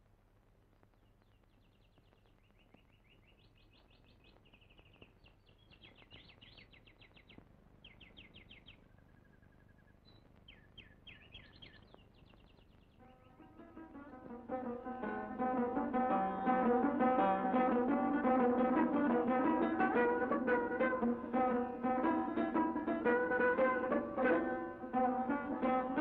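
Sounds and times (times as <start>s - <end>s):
faint birdsong trills: 0.8s - 26.0s.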